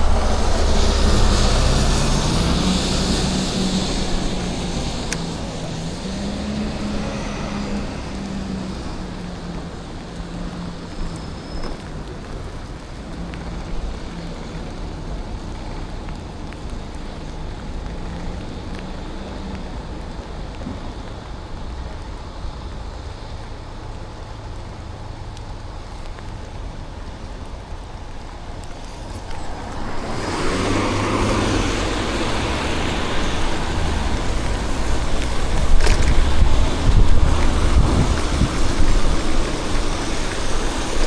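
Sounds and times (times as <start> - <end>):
city traffic rumble: 0.0 - 41.0
rushing noise: 0.0 - 41.0.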